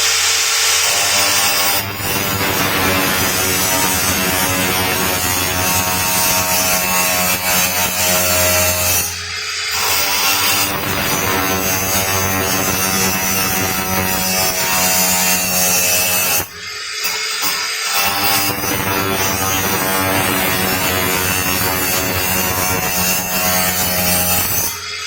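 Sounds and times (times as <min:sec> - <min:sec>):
electric power tool running: 0:00.0 - 0:25.0.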